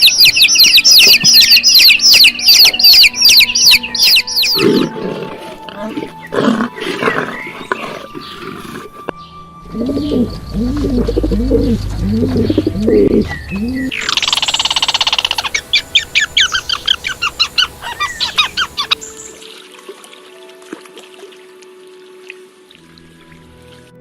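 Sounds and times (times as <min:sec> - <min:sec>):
birds calling: 0:00.0 - 0:19.4.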